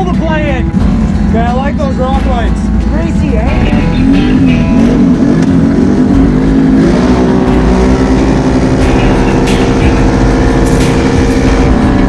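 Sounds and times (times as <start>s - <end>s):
engine accelerating hard: 0.0s - 12.0s.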